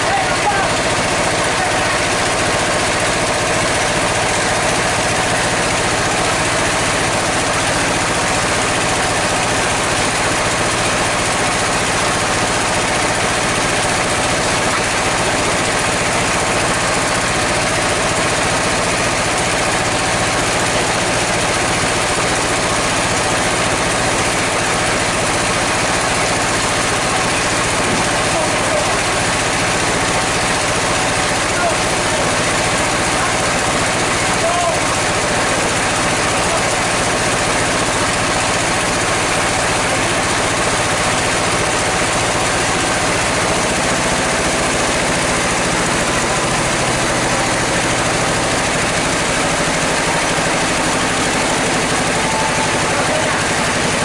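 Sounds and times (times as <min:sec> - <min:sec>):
sawmill saw and engine running: 0:00.0 - 0:54.0.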